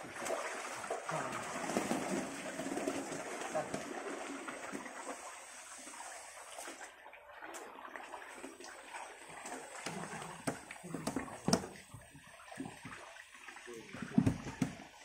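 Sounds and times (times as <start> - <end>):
muddy water sloshing: 0.0 - 5.5, 6.5 - 14.9
fish splashing: 0.0 - 15.0.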